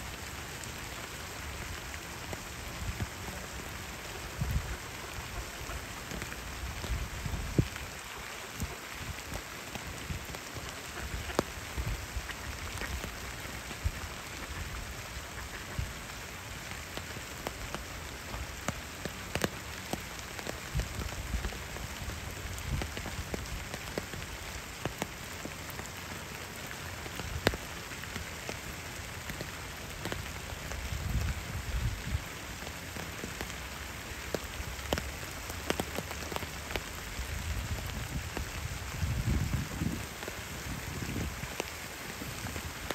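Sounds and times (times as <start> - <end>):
rain falling on pond: 0.0 - 42.9.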